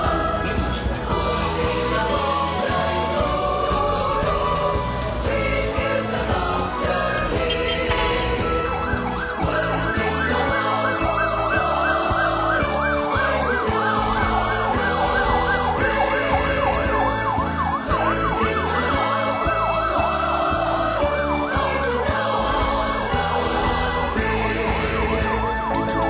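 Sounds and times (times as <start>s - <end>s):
electronic siren yelping: 0.0s - 26.0s
music playing: 0.0s - 26.0s.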